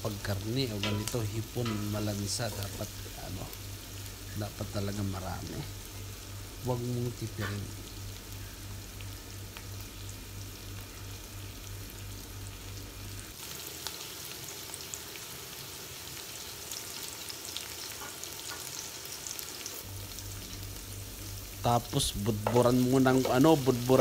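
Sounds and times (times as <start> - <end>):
onions and garlic sizzling in oil: 0.0 - 24.0.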